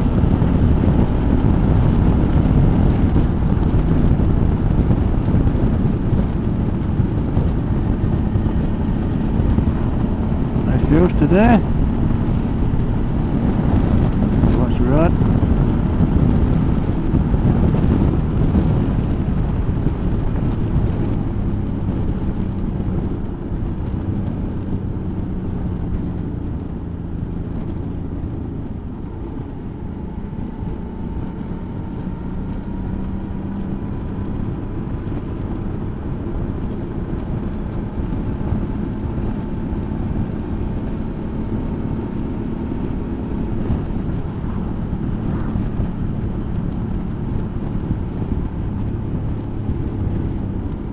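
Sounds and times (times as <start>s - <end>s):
motorcycle engine rumble: 0.0s - 50.9s
wind noise on microphone: 0.0s - 50.9s.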